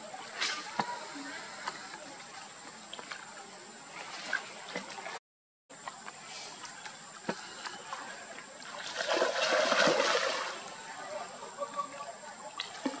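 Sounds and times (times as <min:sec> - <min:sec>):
water splashing and lapping: 0:00.1 - 0:05.2, 0:05.8 - 0:11.4.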